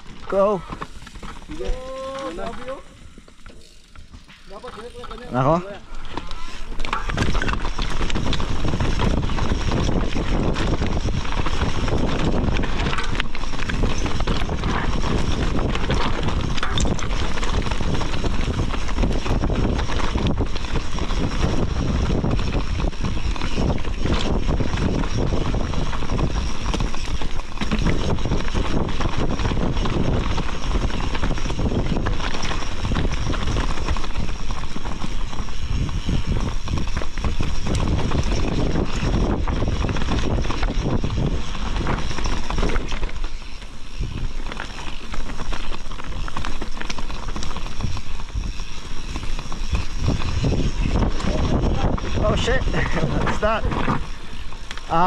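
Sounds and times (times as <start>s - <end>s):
bike rattles and knocks: 0.0s - 55.0s
wind buffeting microphone: 4.5s - 55.0s.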